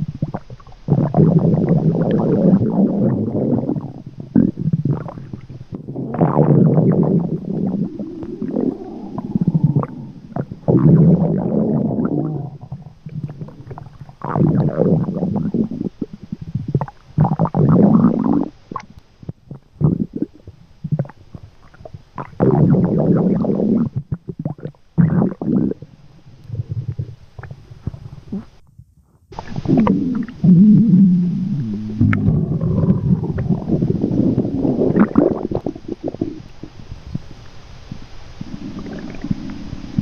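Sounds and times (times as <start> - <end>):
stomach gurgling and growling: 0.0 - 40.0.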